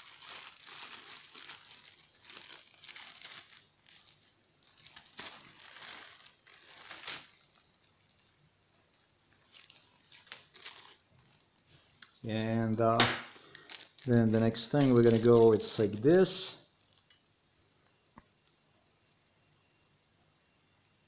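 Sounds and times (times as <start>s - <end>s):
plastic wrapping crinkling: 0.0s - 17.2s.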